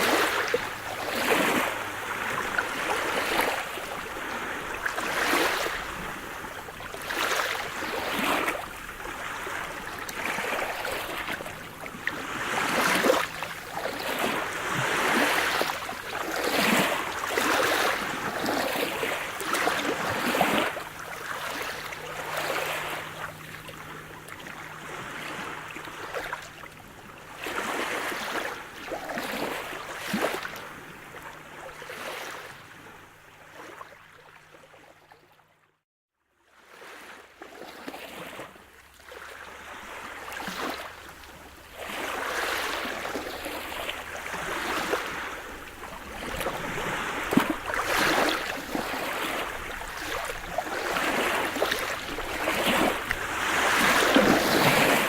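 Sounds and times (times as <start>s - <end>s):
waves breaking: 0.0s - 34.2s, 36.6s - 55.0s.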